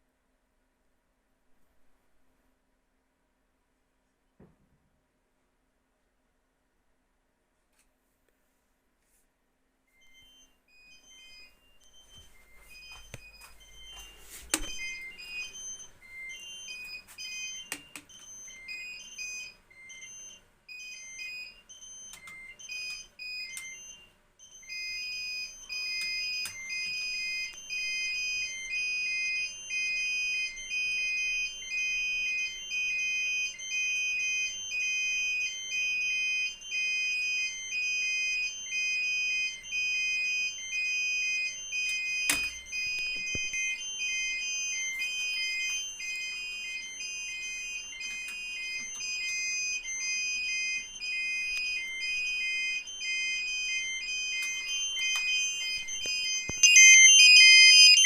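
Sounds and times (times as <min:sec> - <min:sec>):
fire alarm beeping: 0:09.9 - 0:58.0.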